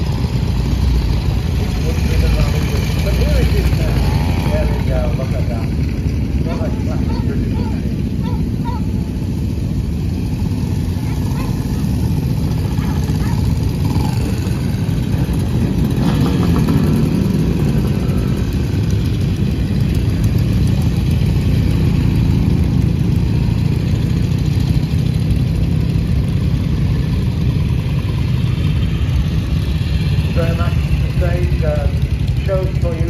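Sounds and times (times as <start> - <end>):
motorcycle engines running at low speed: 0.0 - 33.0.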